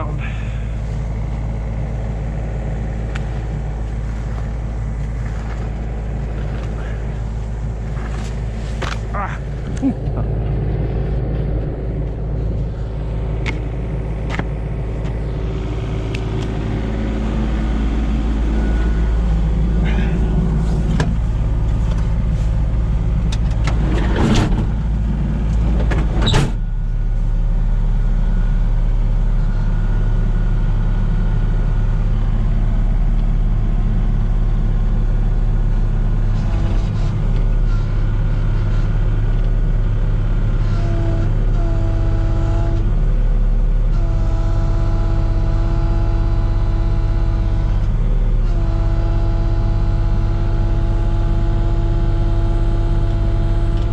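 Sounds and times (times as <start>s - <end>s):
excavator diesel engine running: 0.0s - 53.9s
hydraulic whine: 0.0s - 53.9s.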